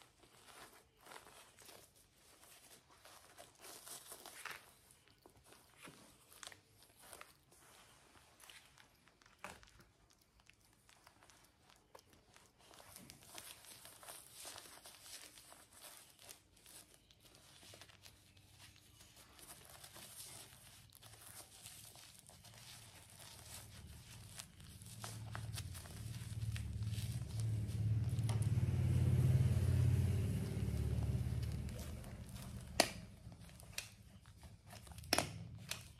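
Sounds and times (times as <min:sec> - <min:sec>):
crinkling and rustling: 0:00.0 - 0:35.9.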